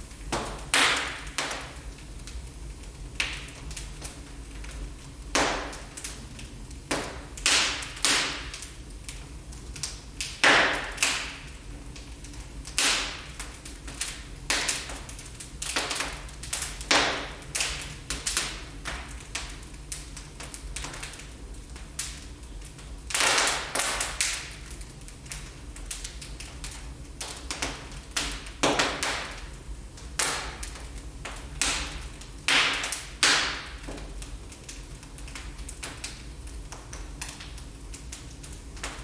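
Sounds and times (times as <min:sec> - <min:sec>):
low rumble of flames: 0:00.0 - 0:39.0
wood fire crackling and popping: 0:00.0 - 0:39.0.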